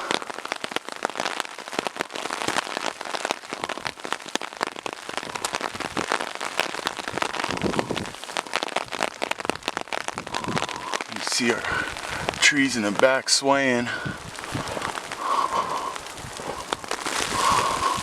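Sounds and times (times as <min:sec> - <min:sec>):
rain pattering: 0:00.0 - 0:18.0
raindrops ticking close by: 0:00.0 - 0:18.0.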